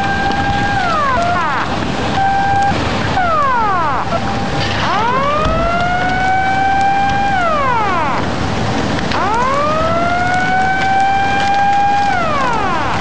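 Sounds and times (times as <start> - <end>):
steady rushing noise: 0.0 - 13.0
warning siren wailing: 0.0 - 13.0.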